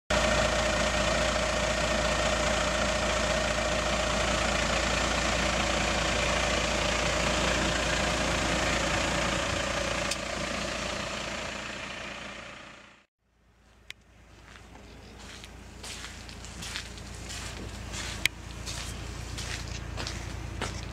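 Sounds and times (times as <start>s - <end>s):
diesel truck engine rumbling: 0.1s - 20.9s.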